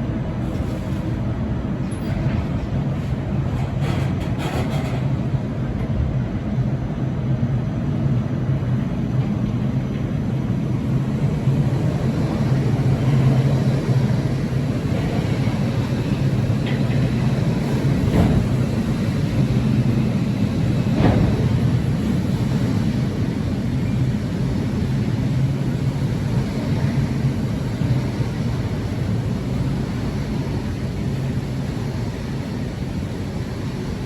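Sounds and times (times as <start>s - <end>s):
train humming drone: 0.0s - 34.0s.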